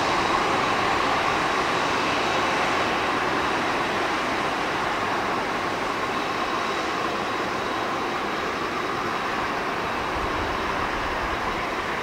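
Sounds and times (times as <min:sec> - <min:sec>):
jet engines rumbling and whining: 0:00.0 - 0:12.0.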